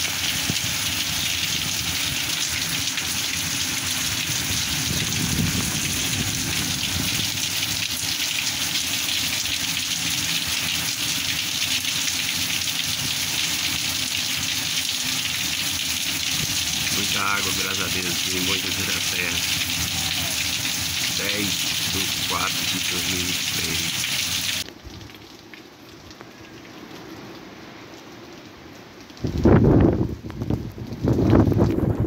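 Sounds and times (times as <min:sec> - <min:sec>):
heavy rain pouring on roofs: 0:00.0 - 0:32.0.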